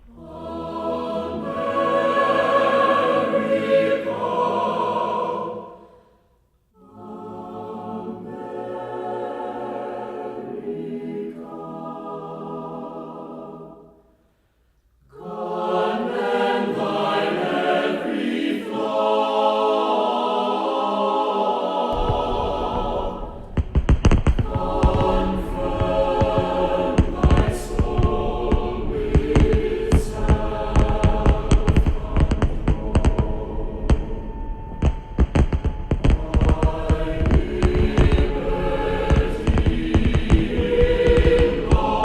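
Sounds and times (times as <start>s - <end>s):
choir singing held chords: 0.0s - 14.4s, 15.0s - 42.0s.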